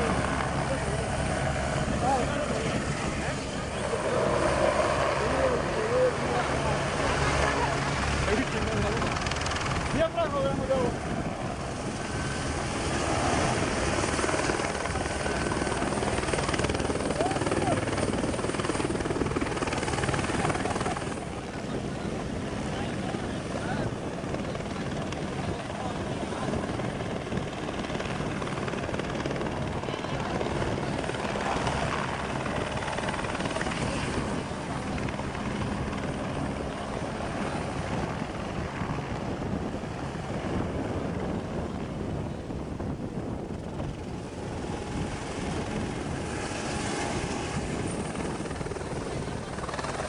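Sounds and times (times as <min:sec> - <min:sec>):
helicopter rotor chopping: 0:00.0 - 0:50.0.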